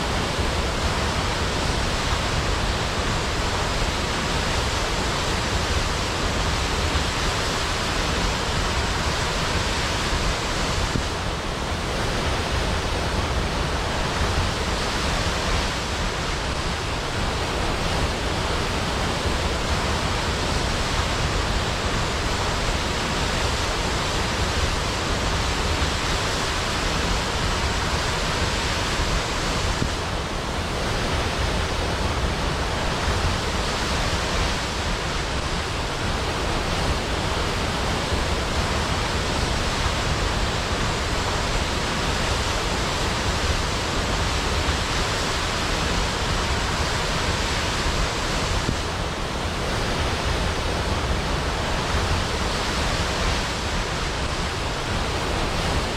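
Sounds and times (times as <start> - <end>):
waterfall crashing into pool: 0.0 - 55.9.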